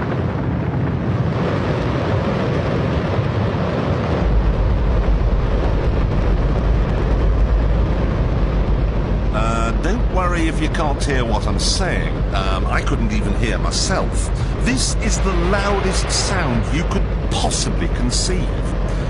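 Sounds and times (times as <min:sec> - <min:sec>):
rocket engine roaring: 0:00.0 - 0:19.0.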